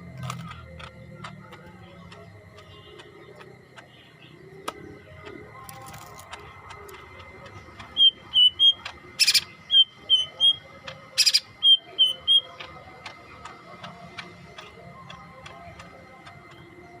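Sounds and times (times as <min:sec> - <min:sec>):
faint steady ticking: 0:00.0 - 0:17.0
harsh rasping bird calls: 0:00.0 - 0:17.0
bird whistled song: 0:00.4 - 0:17.0.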